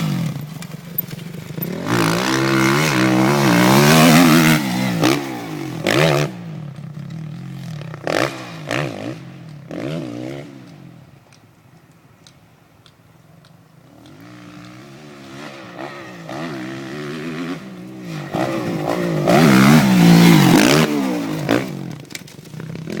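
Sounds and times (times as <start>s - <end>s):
dirt bike engine revving: 0.0s - 10.8s, 13.9s - 23.0s.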